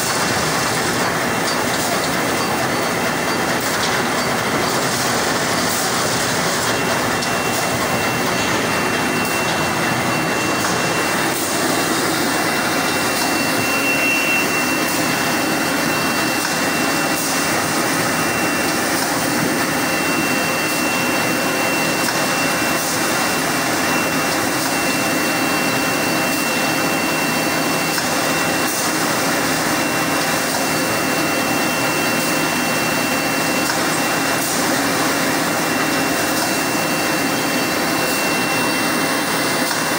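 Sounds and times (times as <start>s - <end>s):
machine blower whooshing whir: 0.0s - 39.9s
thin high whine: 1.1s - 39.9s.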